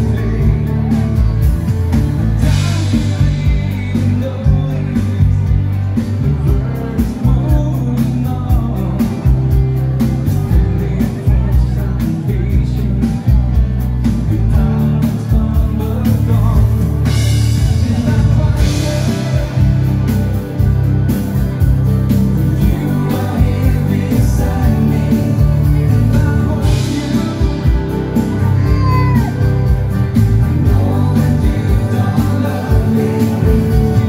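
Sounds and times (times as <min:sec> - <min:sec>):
person singing: 0:00.0 - 0:01.5, 0:02.2 - 0:20.7, 0:22.1 - 0:34.0
dance band music: 0:00.0 - 0:34.0.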